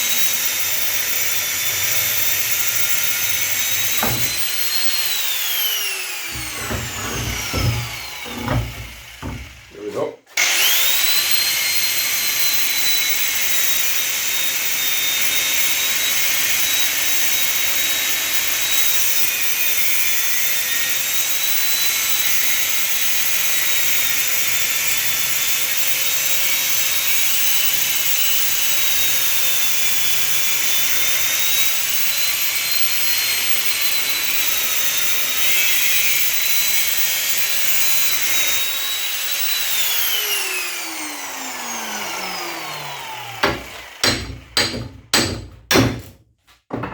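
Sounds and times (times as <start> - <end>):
power cutting tool whining: 0.0 - 45.2.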